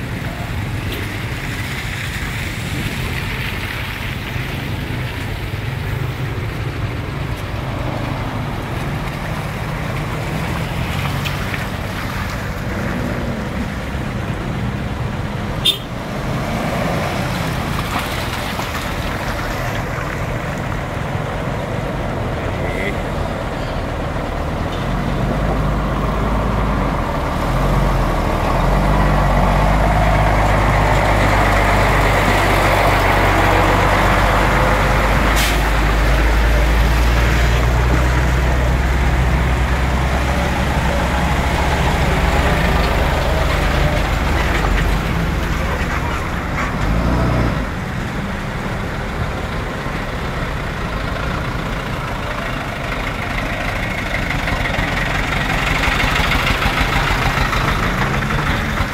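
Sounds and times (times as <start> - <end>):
heavy truck engines running: 0.0 - 58.9.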